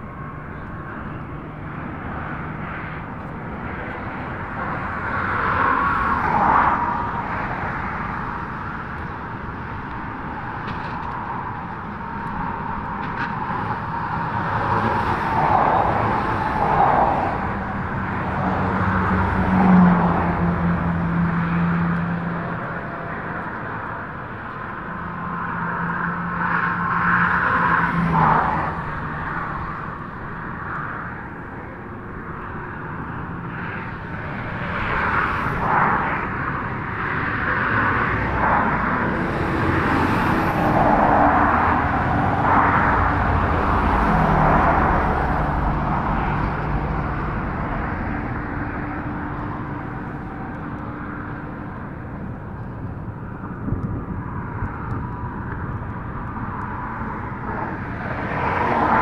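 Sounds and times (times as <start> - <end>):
engine noise: 0.0 - 59.0
outdoor ambience: 0.0 - 59.0.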